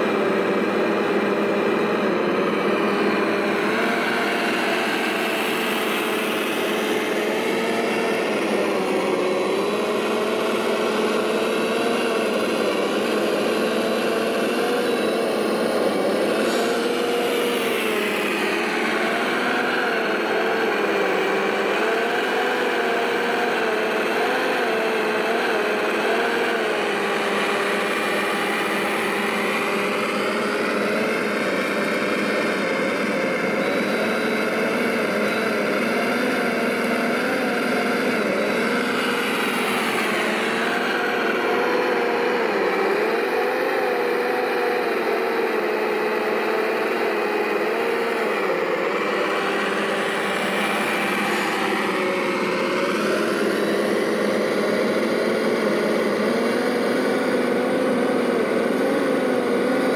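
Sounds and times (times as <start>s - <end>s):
model vehicle motor humming: 0.0s - 59.9s.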